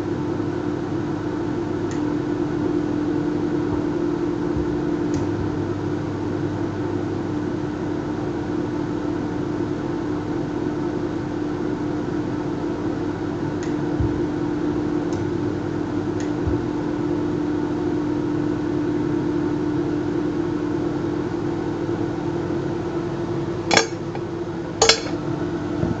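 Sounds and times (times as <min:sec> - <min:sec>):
electrical hum of welder: 0:00.0 - 0:26.0.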